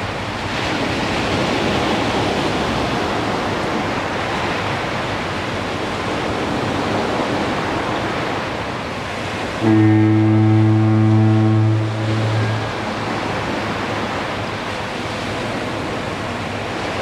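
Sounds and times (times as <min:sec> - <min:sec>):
ocean surf on sandy beach: 0:00.0 - 0:17.0.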